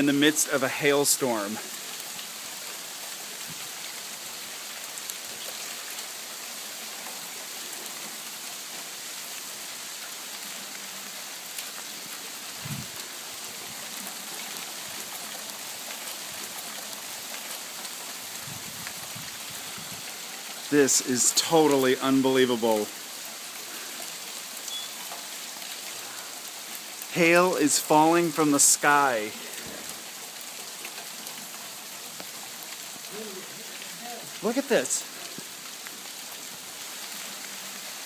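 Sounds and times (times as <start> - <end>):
hail and rain falling: 0.0 - 38.0
hailstones ticking: 1.5 - 38.0.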